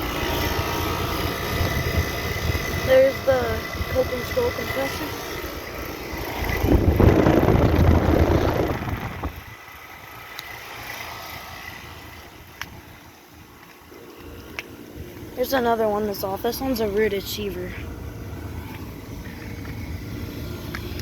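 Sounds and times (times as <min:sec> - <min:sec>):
air conditioner unit running: 0:00.0 - 0:21.0.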